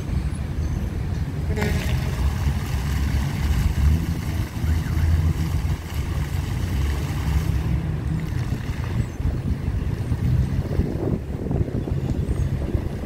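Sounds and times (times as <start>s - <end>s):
wind buffeting microphone: 0.0s - 13.0s
fountain splashing into pool: 1.3s - 13.0s.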